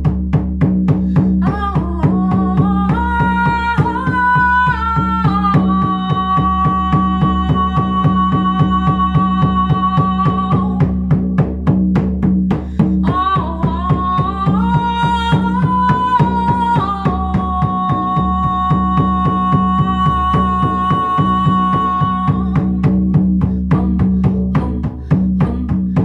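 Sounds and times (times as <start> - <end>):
frame drum beat: 0.0 - 26.0
woman singing held vowels: 1.4 - 11.1, 13.0 - 26.0.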